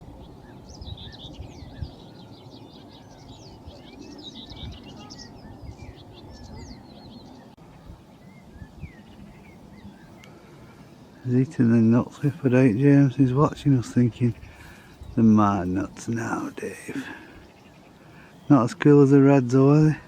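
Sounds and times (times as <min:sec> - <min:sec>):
low wind rumble: 0:00.0 - 0:20.0
small birds chirping: 0:00.0 - 0:20.0.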